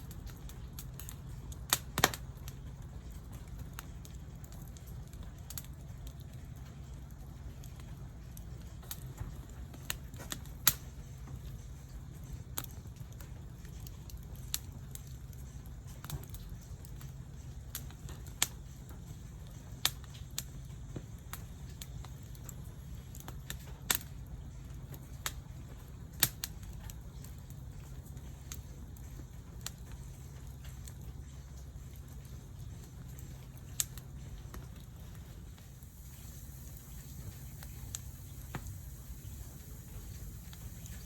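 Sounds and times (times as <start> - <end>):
sharp fire pops: 0.0 - 6.2, 7.6 - 24.2, 24.8 - 41.0
low steady rumble: 0.0 - 41.0
wood fire crackling: 0.0 - 41.0.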